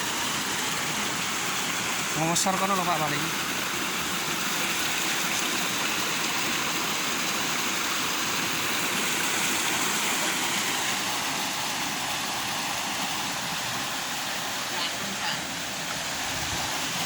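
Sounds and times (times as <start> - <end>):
water rushing over a dam: 0.0 - 17.0.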